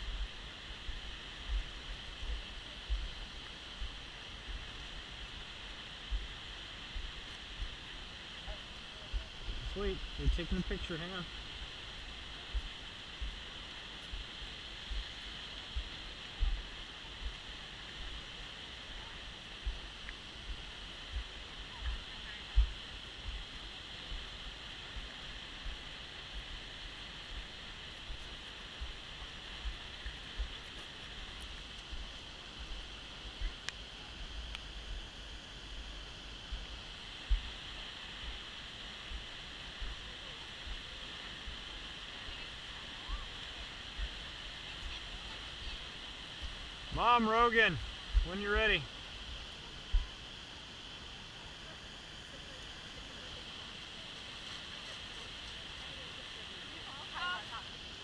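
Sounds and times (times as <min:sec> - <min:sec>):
waterfall roaring: 0:00.1 - 0:50.4.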